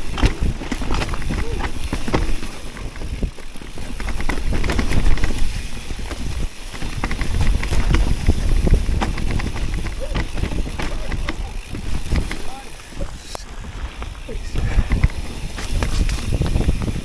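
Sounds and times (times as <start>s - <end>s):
bike rattling with clicks: 0.0s - 17.0s
tyres crunching over leaves: 0.0s - 17.0s
wind rumble on microphone: 0.0s - 17.0s.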